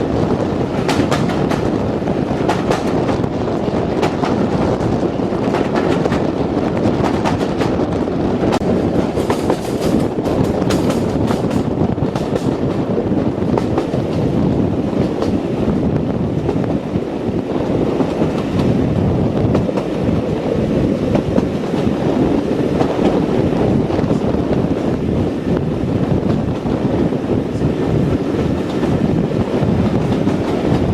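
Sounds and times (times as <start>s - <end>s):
diesel train rumbling on rails: 0.0s - 30.9s
wind on microphone: 0.0s - 30.9s.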